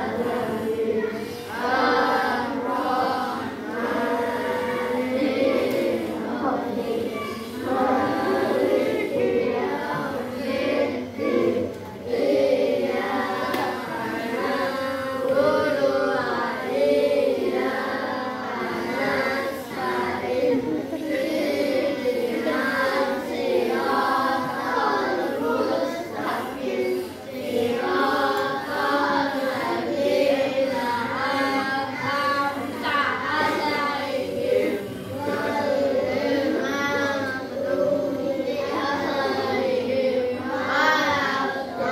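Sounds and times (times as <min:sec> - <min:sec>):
children singing together: 0:00.0 - 0:41.9.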